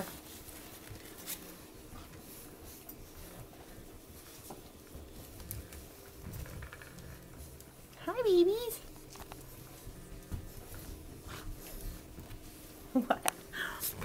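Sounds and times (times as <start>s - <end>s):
puppies scuffling and pattering: 0.0s - 14.0s.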